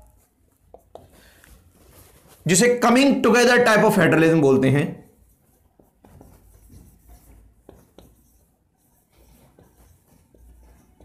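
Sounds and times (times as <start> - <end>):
marker scratching on whiteboard: 0.0 - 11.0.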